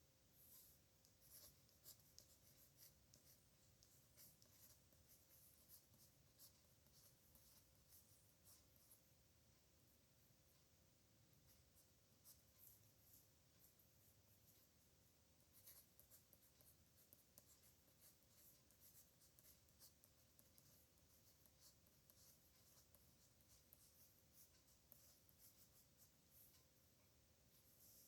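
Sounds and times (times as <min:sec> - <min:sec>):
pen scratching on paper: 0:00.4 - 0:09.1, 0:11.5 - 0:14.7, 0:15.5 - 0:26.7, 0:27.5 - 0:28.0.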